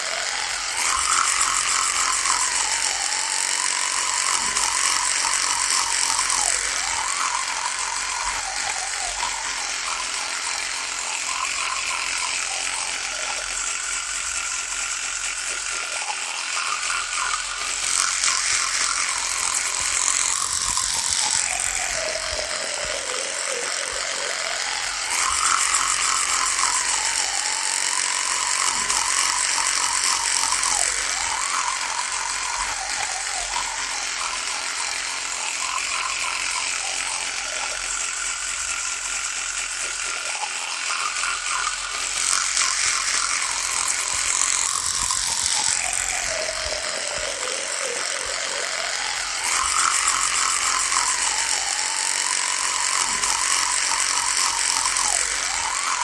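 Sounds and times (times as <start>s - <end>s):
electric toothbrush buzzing: 0.0s - 56.0s.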